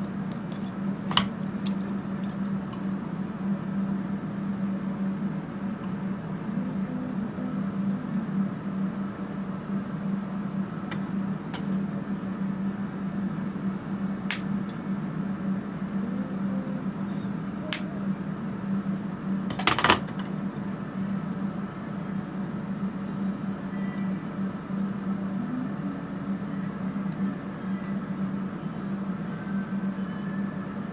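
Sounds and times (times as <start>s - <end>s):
extraction fans humming: 0.0s - 30.9s.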